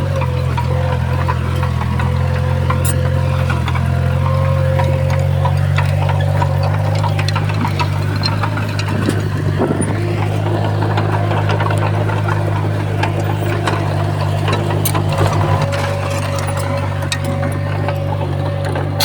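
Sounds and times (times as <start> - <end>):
heavy diesel engine humming: 0.0 - 19.0
metal clanks and clicks: 0.0 - 19.0.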